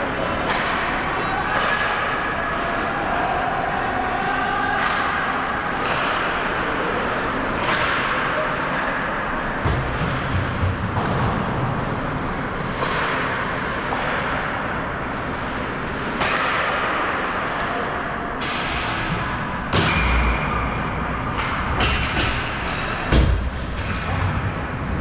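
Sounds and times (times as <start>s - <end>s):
hockey sticks and puck clacking: 0.0s - 3.8s, 4.7s - 12.0s, 12.6s - 25.0s.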